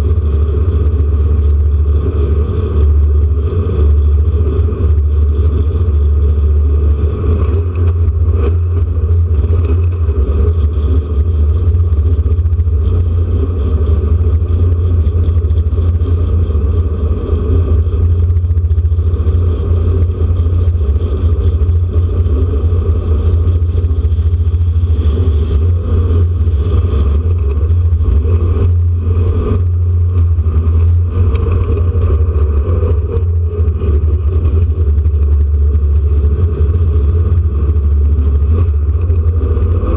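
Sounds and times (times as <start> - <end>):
racing car engine rumbling: 0.0 - 39.9.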